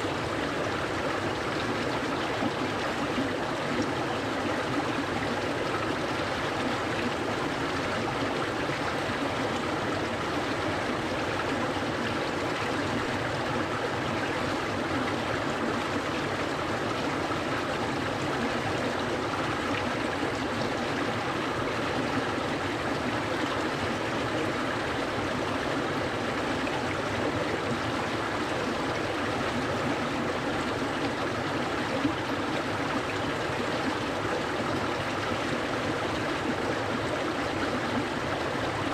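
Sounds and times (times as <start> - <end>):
mountain stream babbling over rocks: 0.0 - 38.9.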